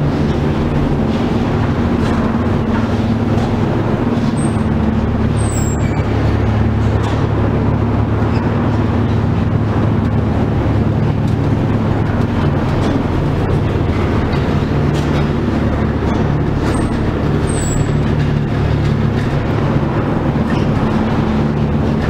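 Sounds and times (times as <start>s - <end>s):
lift machinery hum and rumble: 0.0s - 22.0s.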